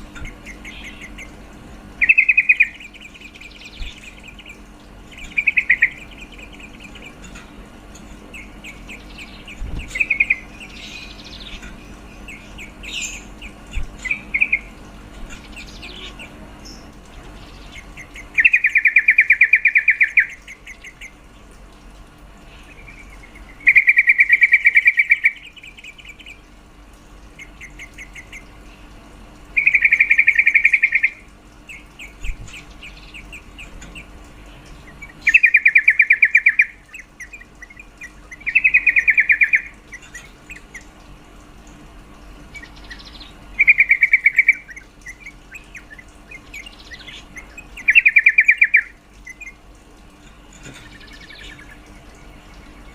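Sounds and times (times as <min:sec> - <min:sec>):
bird chattering trills: 0:00.0 - 0:21.2, 0:22.4 - 0:26.5, 0:27.2 - 0:28.8, 0:29.5 - 0:41.0, 0:42.2 - 0:49.7, 0:50.3 - 0:52.9.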